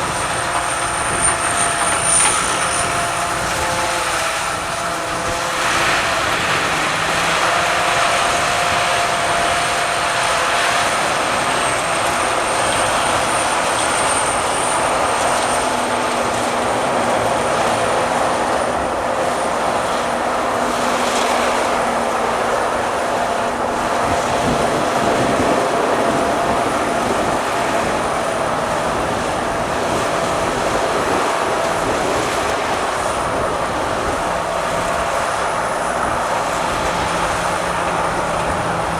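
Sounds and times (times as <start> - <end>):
combine harvester running: 0.0 - 38.9
high machine whine: 0.0 - 38.9.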